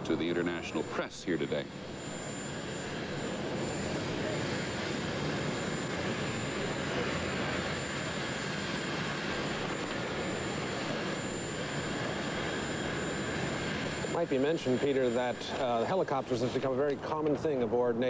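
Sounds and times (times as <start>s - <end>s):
aircraft turbine engine: 0.0s - 18.0s.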